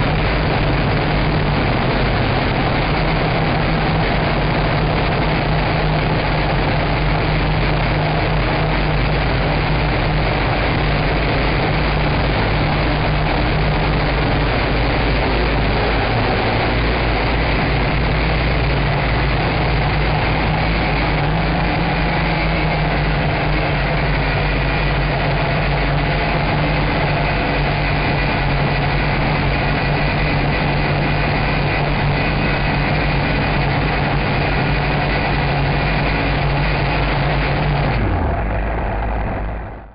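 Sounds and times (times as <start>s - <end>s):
drone propellers whining: 0.0s - 39.8s.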